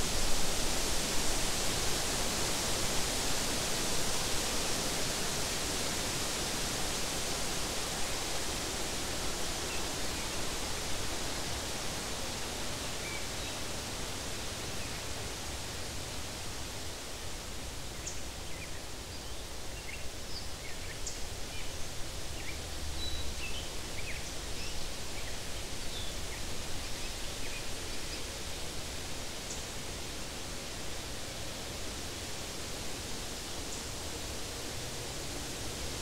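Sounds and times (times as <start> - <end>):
wind rustling grass and leaves: 0.0 - 36.0.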